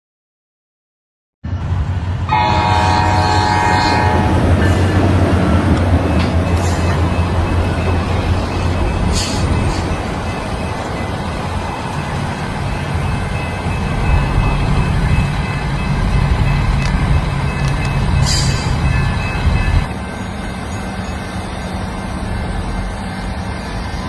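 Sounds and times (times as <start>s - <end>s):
train rumbling past: 1.4s - 24.0s.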